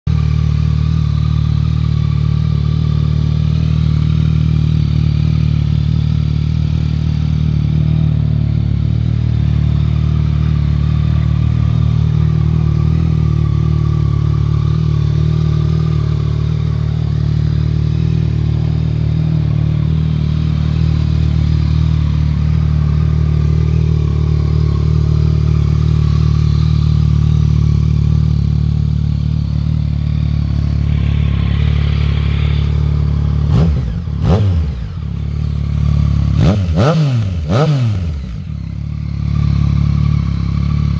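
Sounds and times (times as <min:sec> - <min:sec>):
motorcycle engine idling: 0:00.1 - 0:40.9.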